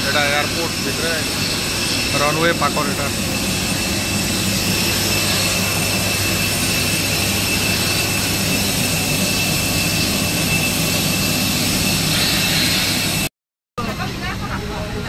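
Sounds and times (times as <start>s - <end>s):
jet turbine roar with whine: 0.0s - 15.0s.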